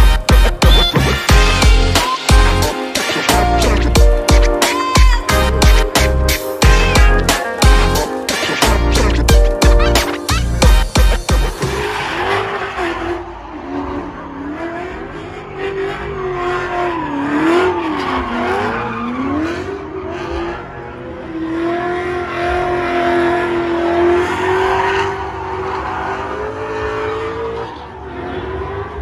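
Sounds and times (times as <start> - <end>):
car engines revving: 0.1 - 29.0
tires squealing: 0.5 - 29.0.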